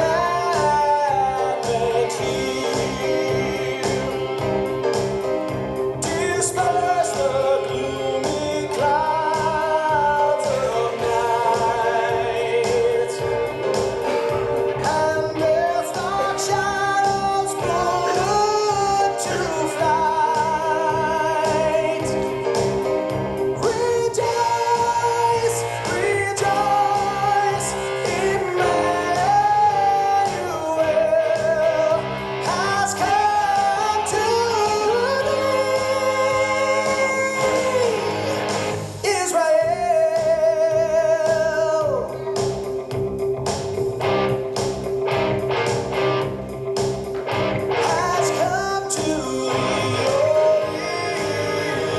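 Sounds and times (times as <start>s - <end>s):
song with singing and instruments: 0.0s - 51.9s.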